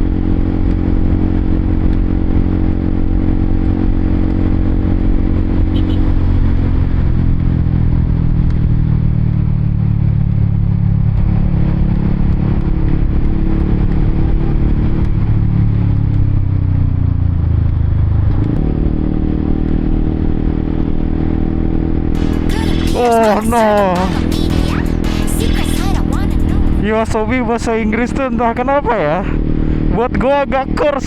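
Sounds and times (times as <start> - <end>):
wind and road noise: 0.0 - 22.6, 25.8 - 31.0
motorcycle engine running: 0.0 - 31.0.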